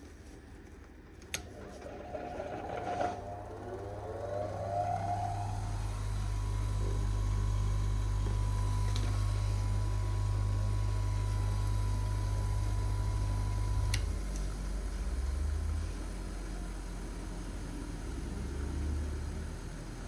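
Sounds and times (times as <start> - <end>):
bench grinder motor running: 1.4 - 20.0.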